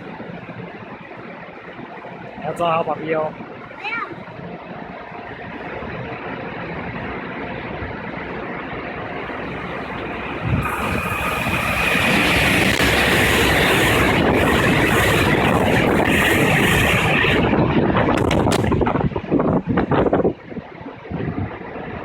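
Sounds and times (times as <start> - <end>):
express train passing at speed: 0.0 - 22.0.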